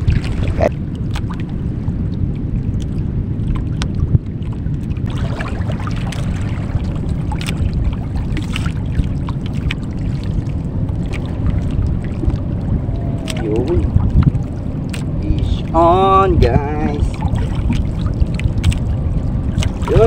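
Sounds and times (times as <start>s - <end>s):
boat engine low rumble: 0.0s - 20.0s.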